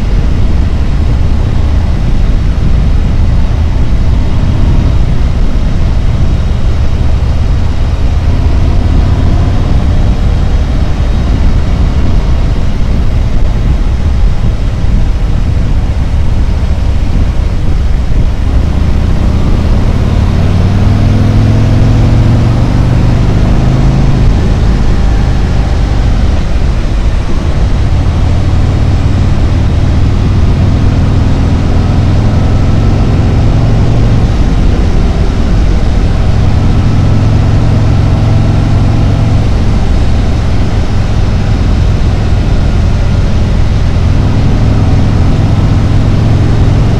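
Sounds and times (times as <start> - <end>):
motorcycle engine and exhaust: 0.0 - 46.9.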